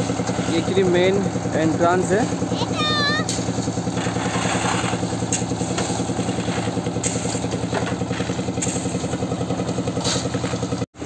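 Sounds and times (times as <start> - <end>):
concrete mixer engine running: 0.0 - 11.0.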